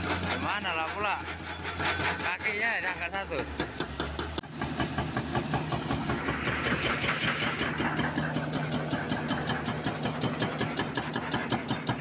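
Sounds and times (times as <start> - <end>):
diesel engine running: 0.0 - 12.0
hydraulic breaker hammering concrete: 0.0 - 12.0.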